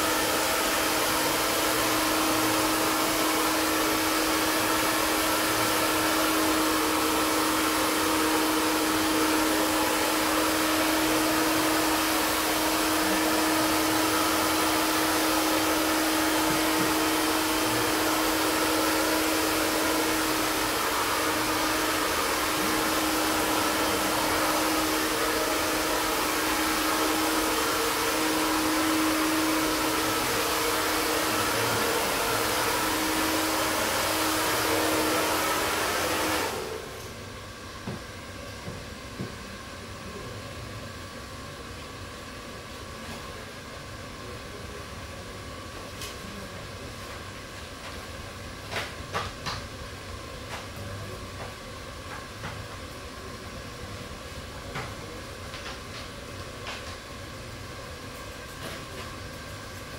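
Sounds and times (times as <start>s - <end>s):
blower fan air rushing: 0.0s - 59.9s.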